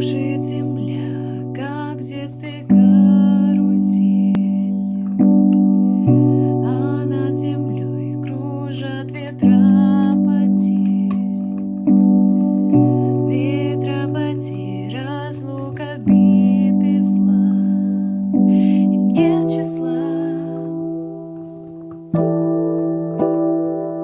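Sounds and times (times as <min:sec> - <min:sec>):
keyboard chords: 0:00.0 - 0:24.0
wavering keyboard melody: 0:00.0 - 0:24.0.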